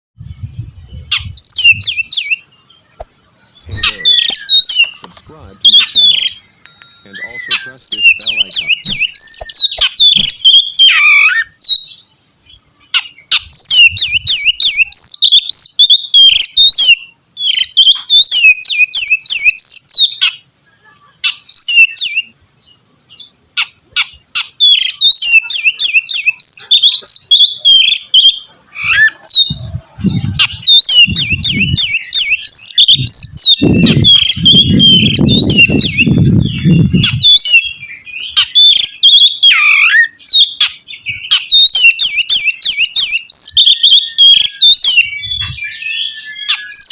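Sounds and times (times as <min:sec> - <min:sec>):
magpie-robin singing: 0:00.2 - 0:46.9.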